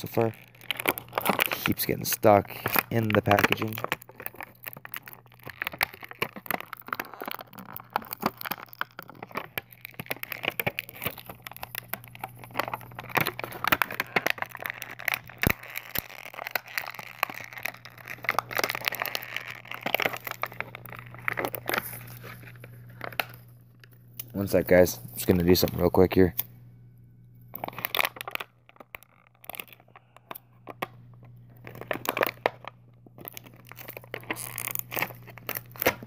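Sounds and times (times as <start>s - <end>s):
plastic packaging crinkling: 0.0s - 26.4s, 27.5s - 36.0s.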